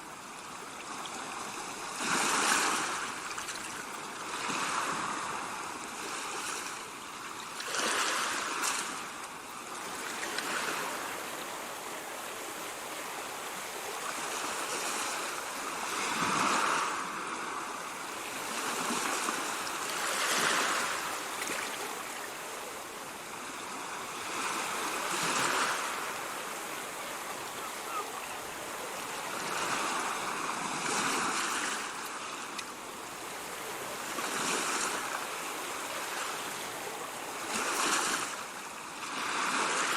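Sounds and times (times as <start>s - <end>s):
ocean waves rushing: 1.1s - 39.9s.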